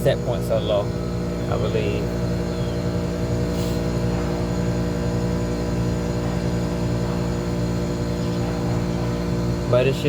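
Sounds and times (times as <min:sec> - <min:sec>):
chiller compressor humming: 0:00.0 - 0:10.0.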